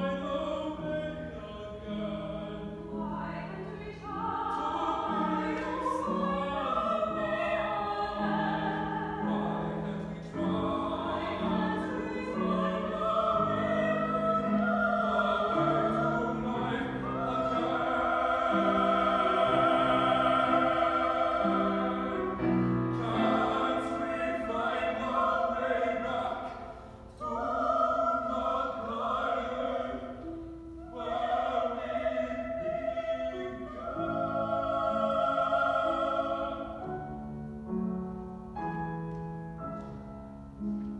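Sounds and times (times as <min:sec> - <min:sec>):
man and woman singing operatic duet: 0:00.0 - 0:37.3.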